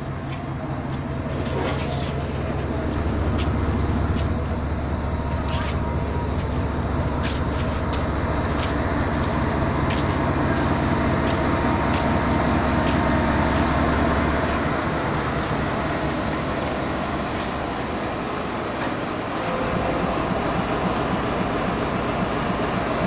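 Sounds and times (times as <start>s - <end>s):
locomotive engine drone: 0.0s - 23.0s.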